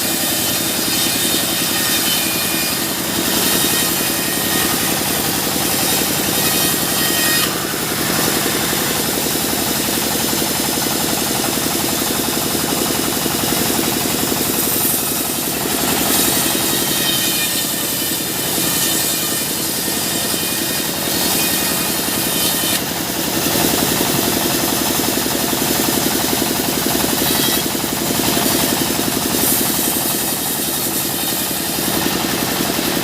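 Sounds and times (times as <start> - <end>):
sawmill engine running: 0.0 - 33.0.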